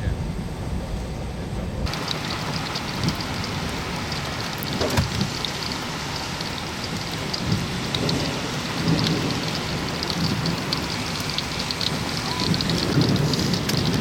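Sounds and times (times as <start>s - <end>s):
low rumbles: 0.0s - 14.0s
steady rain: 0.4s - 14.0s
drops crackling: 1.9s - 14.0s.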